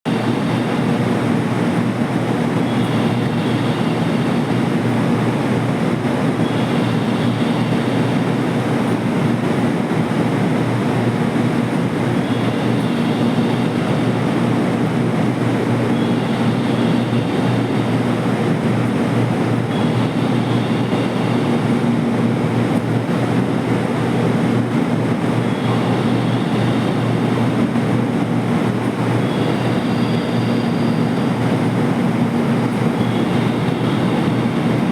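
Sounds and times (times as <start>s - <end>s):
train wheels rumbling on rail: 0.1s - 34.9s.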